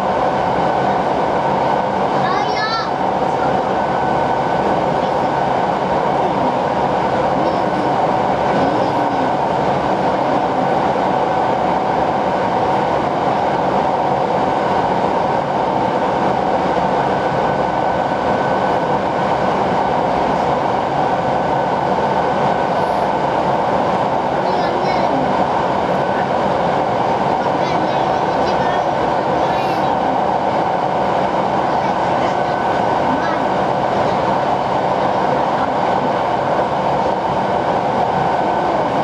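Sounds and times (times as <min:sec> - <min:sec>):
train rumbling through tunnel: 0:00.0 - 0:39.0.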